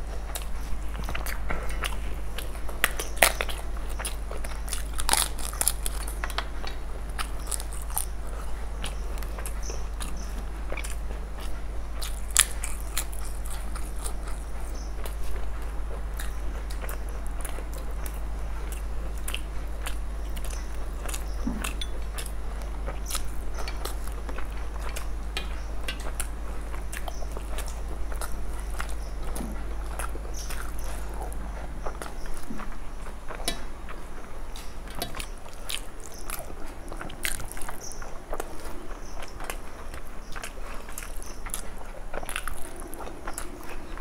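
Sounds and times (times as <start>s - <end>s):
steady low hum: 0.0s - 44.0s
wet chewing and lip smacks: 0.0s - 44.0s.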